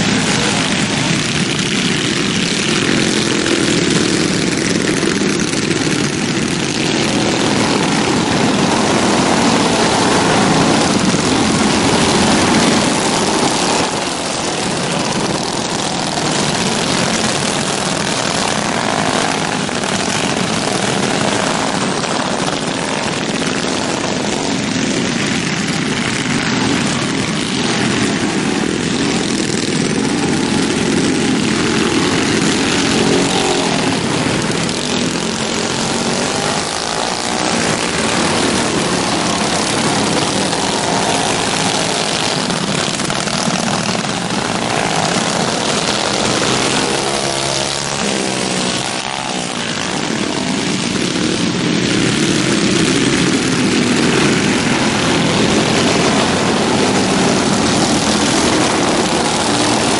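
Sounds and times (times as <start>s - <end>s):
racing kart engines drone: 0.0s - 59.9s.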